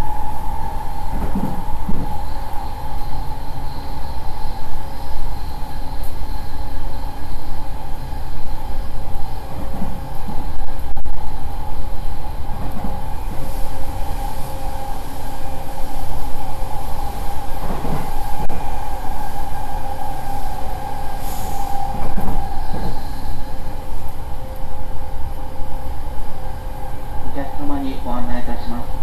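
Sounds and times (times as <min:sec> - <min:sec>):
train wheels rumbling on rails: 0:00.0 - 0:29.0
train whine: 0:00.0 - 0:29.0.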